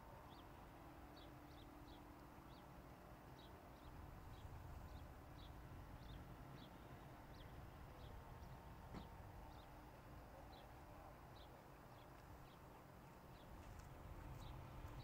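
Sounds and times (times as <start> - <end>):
small birds chirping: 1.1 - 2.7, 3.4 - 9.8, 10.5 - 15.0.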